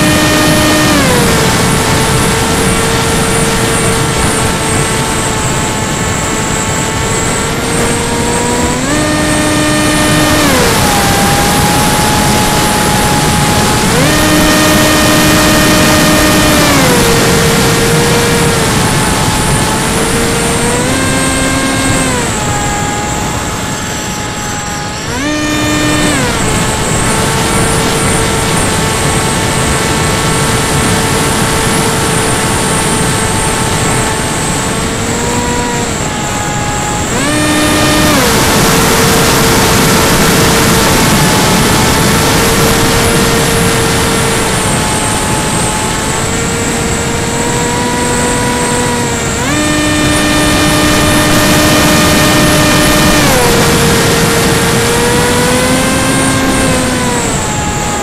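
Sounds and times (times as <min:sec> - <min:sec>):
electric motor and propeller whining: 0:00.0 - 0:58.0
wind rushing over microphone: 0:00.0 - 0:58.0.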